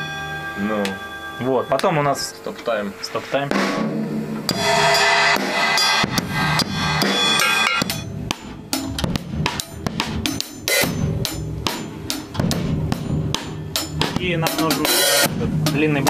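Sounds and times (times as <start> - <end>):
drum kit played with sticks: 0.0 - 16.0.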